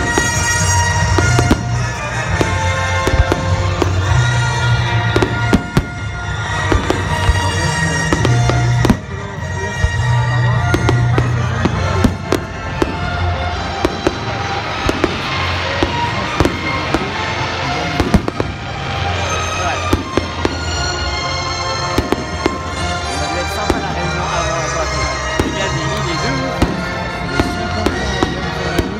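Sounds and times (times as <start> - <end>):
fireworks bangs and crackling: 0.0 - 28.9
music playing: 0.0 - 28.9.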